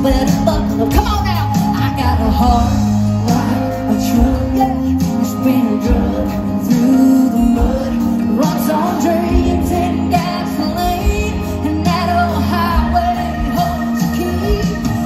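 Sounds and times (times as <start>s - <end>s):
live country band music: 0.0s - 15.0s.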